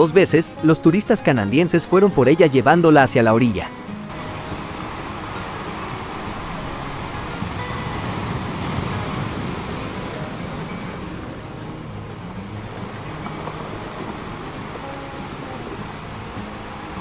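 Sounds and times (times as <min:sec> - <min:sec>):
surf at water's edge: 0:00.0 - 0:17.0
wind: 0:00.0 - 0:17.0.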